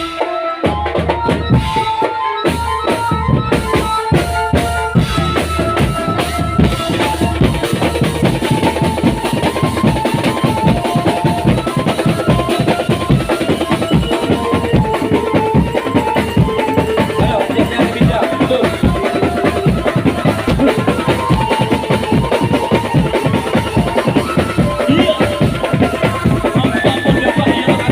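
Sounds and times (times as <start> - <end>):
drum band music: 0.0 - 27.9.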